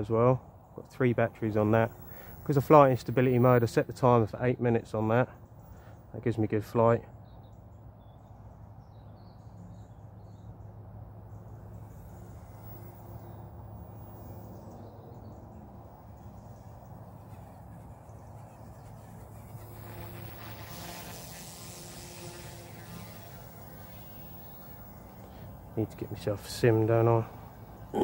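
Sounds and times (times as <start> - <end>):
rc helicopter buzzing hum: 0.0 - 6.2, 7.6 - 28.0.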